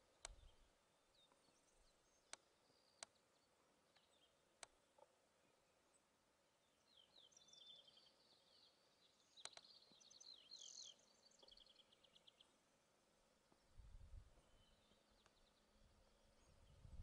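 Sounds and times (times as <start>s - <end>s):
faint songbird song: 0.0s - 17.0s.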